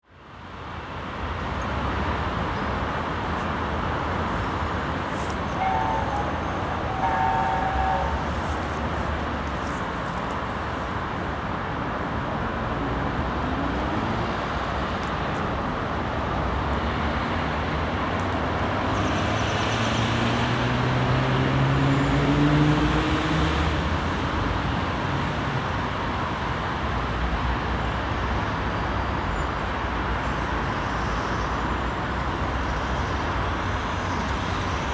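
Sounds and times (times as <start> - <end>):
road traffic noise: 0.0 - 34.9.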